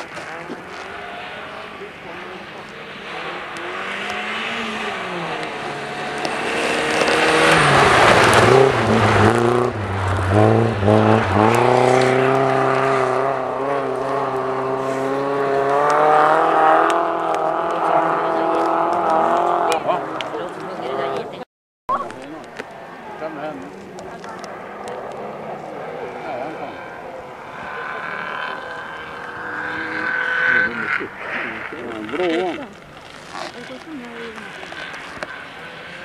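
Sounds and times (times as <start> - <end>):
rally car engine at speed: 0.0 - 36.0.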